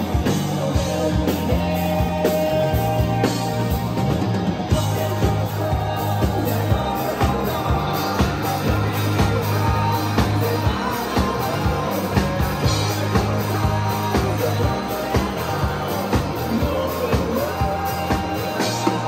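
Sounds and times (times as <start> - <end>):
man singing through speakers: 0.0 - 4.0, 4.6 - 19.0
bass guitar: 0.0 - 19.0
drum kit beat: 0.0 - 19.0
electric guitar: 0.0 - 19.0.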